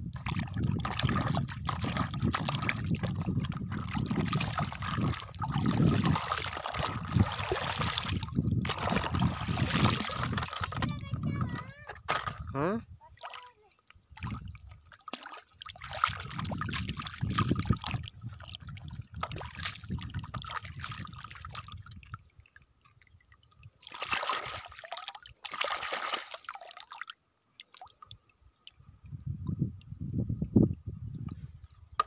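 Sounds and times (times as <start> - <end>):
muddy water sloshing: 0.0 - 28.8
water splashing: 0.1 - 28.8.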